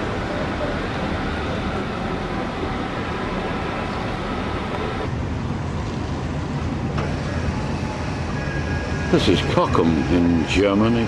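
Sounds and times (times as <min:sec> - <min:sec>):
ship engine hum: 0:00.0 - 0:11.0
water rushing along hull: 0:00.0 - 0:11.0.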